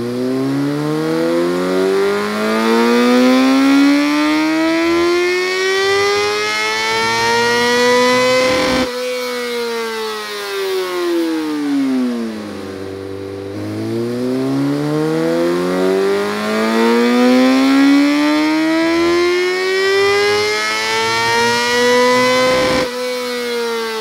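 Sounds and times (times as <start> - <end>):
motorcycle engine revving on dyno: 0.0 - 24.0.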